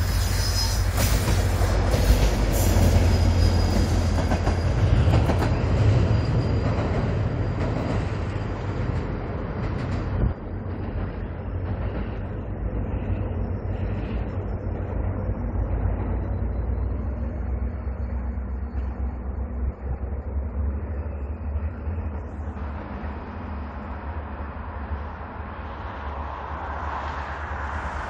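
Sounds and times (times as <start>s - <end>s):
locomotive engine drone: 0.0s - 28.0s
rail and wheel noise: 0.0s - 28.0s.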